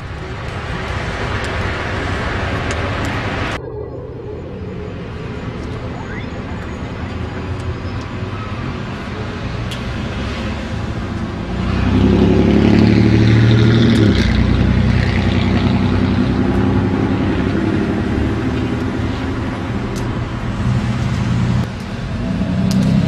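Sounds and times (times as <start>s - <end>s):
vehicle engine passing: 2.2s - 23.0s.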